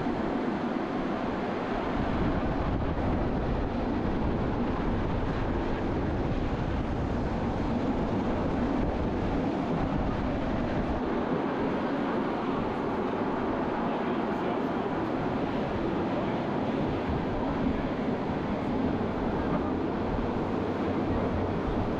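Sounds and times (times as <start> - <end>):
train running on track: 0.0 - 21.9
wind on microphone: 0.0 - 21.9.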